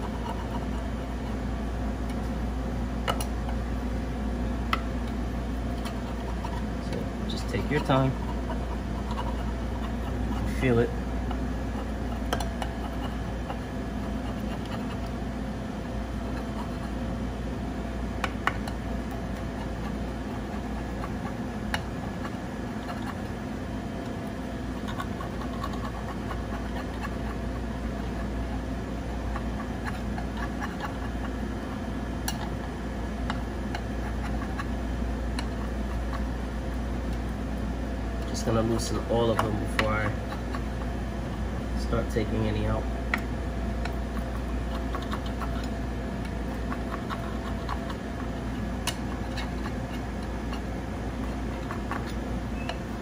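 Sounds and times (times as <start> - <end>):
machine hum: 0.0 - 53.0.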